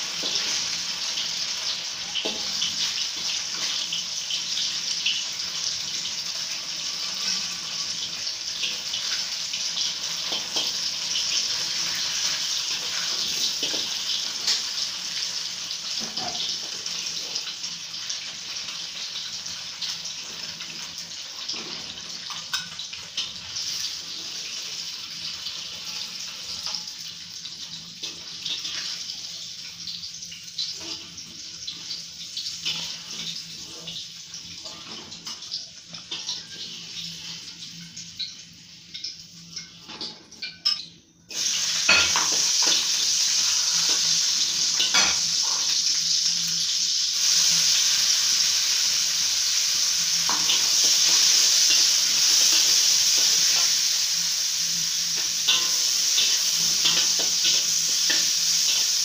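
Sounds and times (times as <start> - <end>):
tofu sizzling in oil: 0.0 - 59.0.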